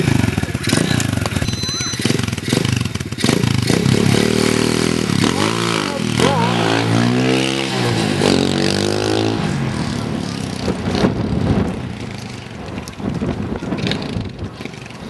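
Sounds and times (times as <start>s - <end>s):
mini motorbike engine revving: 0.0s - 12.6s.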